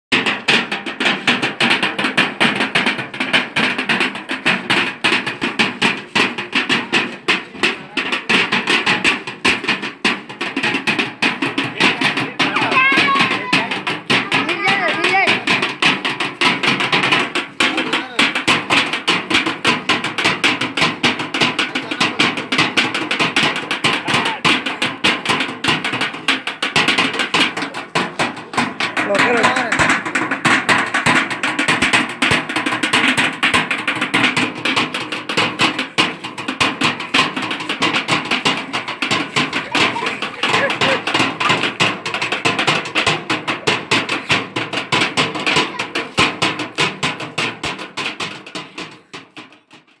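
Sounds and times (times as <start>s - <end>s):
hands drumming on tin and box: 0.1s - 50.0s.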